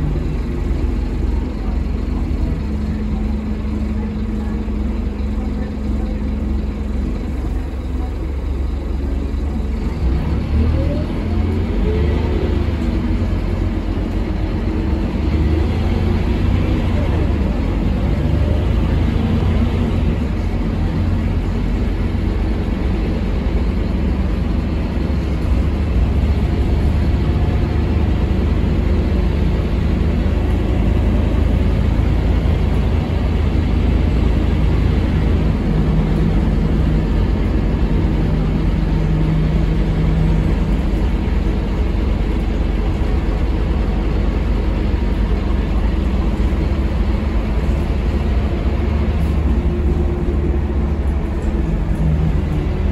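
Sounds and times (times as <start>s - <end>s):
bus diesel engine rumble: 0.0s - 52.9s.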